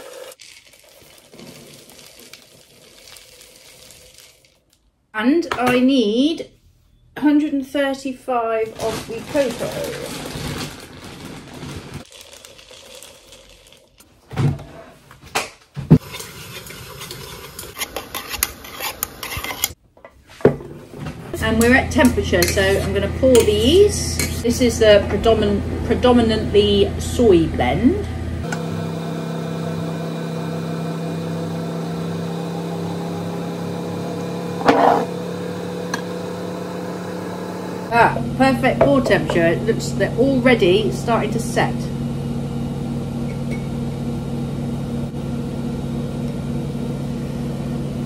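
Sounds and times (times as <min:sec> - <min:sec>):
electrical appliance hum: 0:07.0 - 0:48.0.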